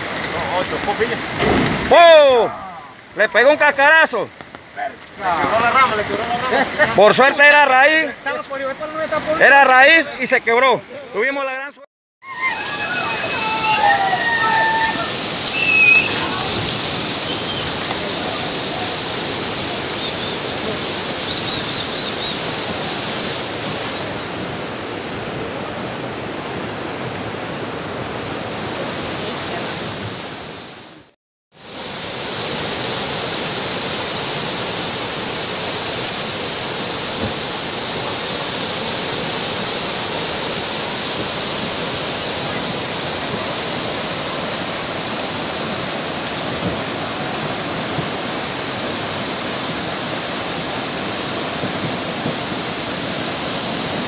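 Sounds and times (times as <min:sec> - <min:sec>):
river rushing: 0:00.0 - 0:11.6, 0:12.2 - 0:54.0.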